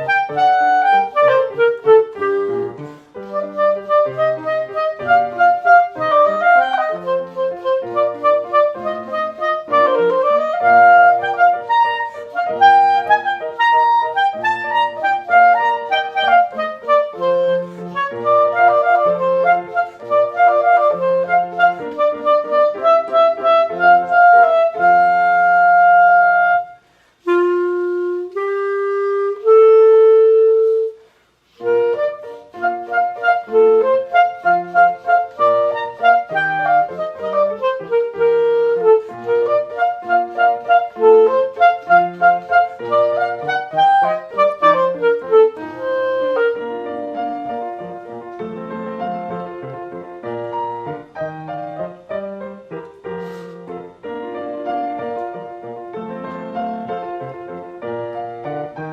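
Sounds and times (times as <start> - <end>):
clarinet playing fast runs: 0.0 - 58.9.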